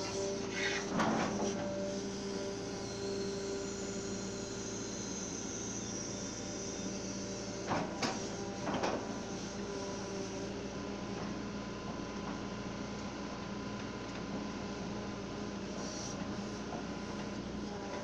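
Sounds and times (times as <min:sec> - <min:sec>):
excavator engine drone: 0:00.0 - 0:18.0.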